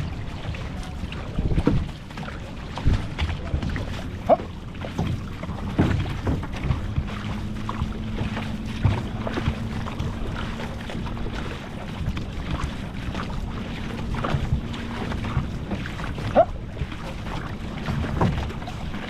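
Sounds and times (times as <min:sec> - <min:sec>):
paddle strikes: 0:00.0 - 0:19.0
water splashing and rushing: 0:00.0 - 0:19.0
wind buffeting microphone: 0:00.0 - 0:19.0.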